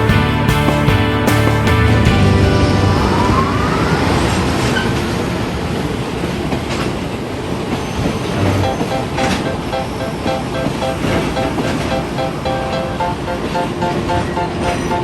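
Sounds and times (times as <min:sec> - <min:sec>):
train wheels rumbling and rattling: 0:00.0 - 0:15.0
train whine: 0:00.0 - 0:15.0.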